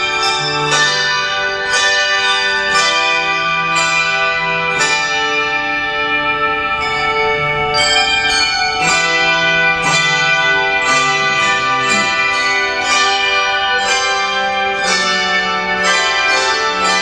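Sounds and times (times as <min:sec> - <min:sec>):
handbell choir ringing chords: 0:00.0 - 0:17.0.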